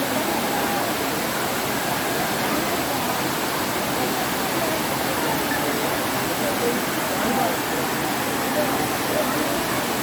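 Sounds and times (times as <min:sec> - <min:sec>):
faint voices: 0:00.0 - 0:10.0
waterfall rushing: 0:00.0 - 0:10.0.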